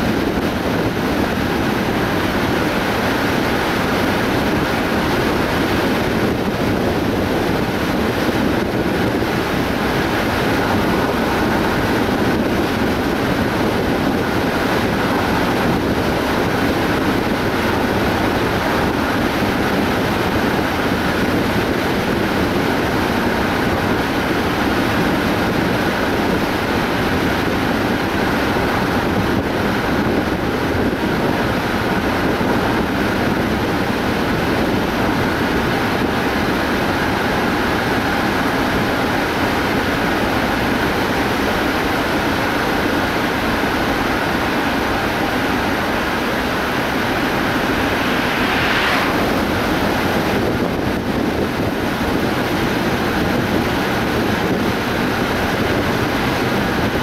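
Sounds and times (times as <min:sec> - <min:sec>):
car engine hum: 0:00.0 - 0:57.0
tyre road noise: 0:00.0 - 0:57.0
wind: 0:00.0 - 0:57.0.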